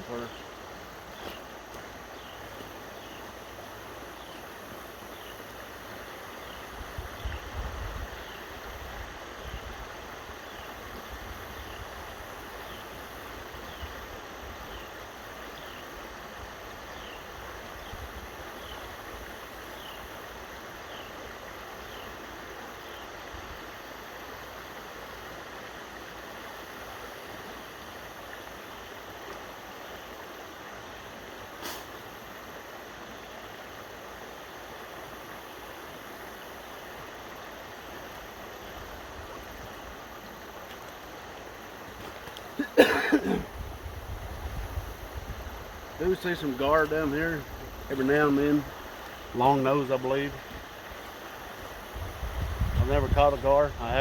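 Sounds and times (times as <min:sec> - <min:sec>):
creek water rushing: 0:00.0 - 0:54.0.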